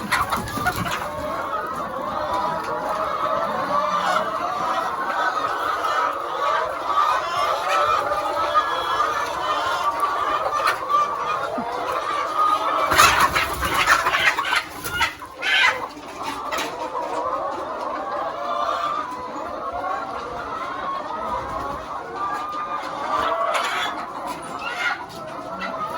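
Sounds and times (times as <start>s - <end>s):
hens clucking: 0.0s - 25.9s
hens squawking loudly: 0.0s - 25.9s.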